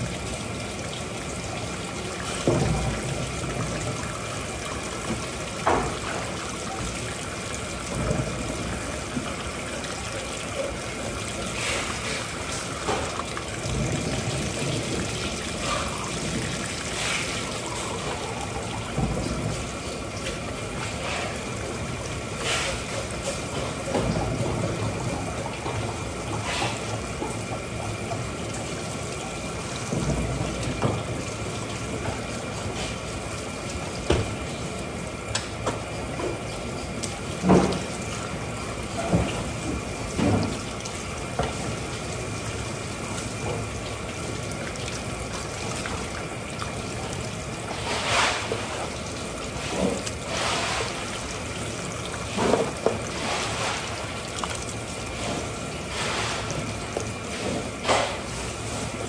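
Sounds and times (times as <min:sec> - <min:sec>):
water running: 0:00.0 - 0:59.0.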